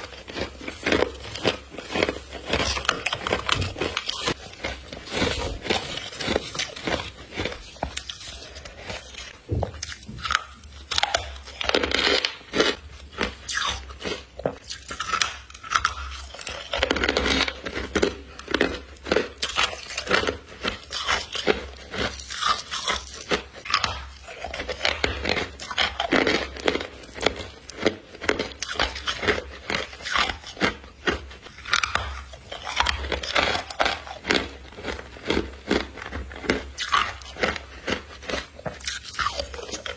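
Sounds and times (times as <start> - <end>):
ice crystals being chewed: 0.0 - 39.9.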